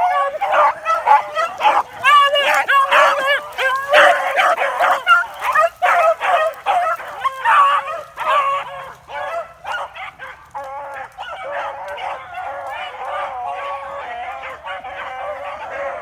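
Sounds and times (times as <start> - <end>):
dogs baying and yelping: 0.0 - 16.0.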